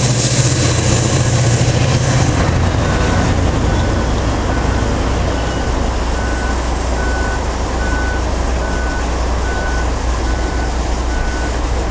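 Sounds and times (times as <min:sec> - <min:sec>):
diesel locomotive rumbling: 0:00.0 - 0:11.9.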